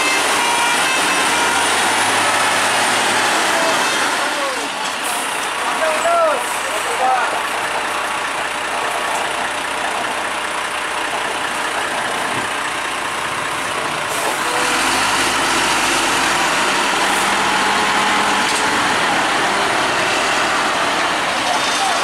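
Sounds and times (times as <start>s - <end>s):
truck diesel engine pulling: 0.0s - 22.0s.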